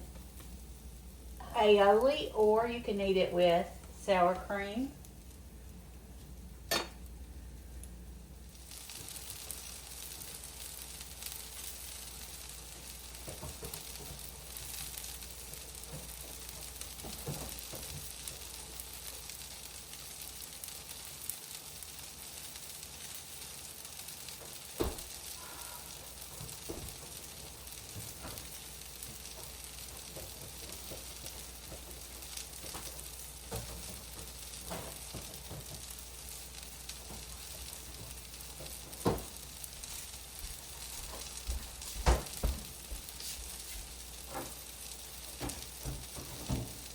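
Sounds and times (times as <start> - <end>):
batter sizzling in oil: 0.0 - 46.9.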